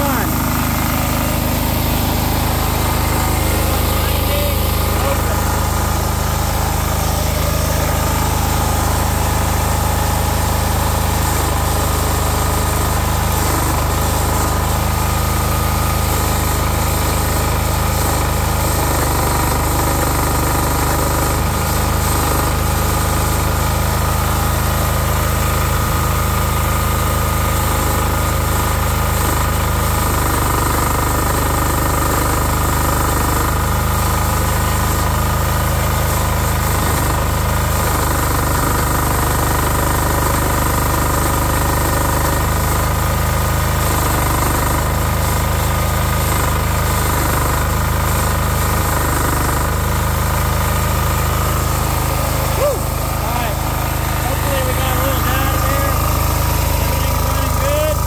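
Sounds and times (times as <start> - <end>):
diesel engine running loudly: 0.0 - 58.0.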